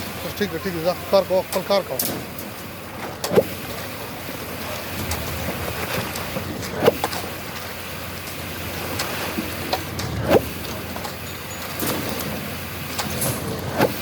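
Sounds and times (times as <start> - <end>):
concrete pump running: 0.0 - 14.0
wet concrete pouring: 0.0 - 14.0.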